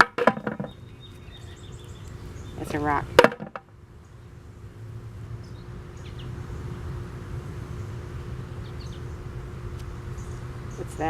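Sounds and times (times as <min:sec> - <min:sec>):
faint constant hum: 0:00.0 - 0:11.0
low outdoor rumble: 0:00.0 - 0:11.0.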